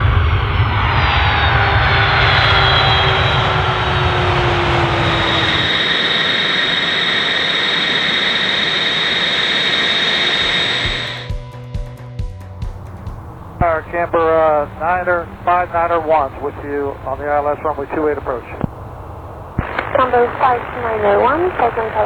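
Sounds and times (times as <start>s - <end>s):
jet engines running with whine: 0.0s - 11.4s, 12.6s - 22.0s.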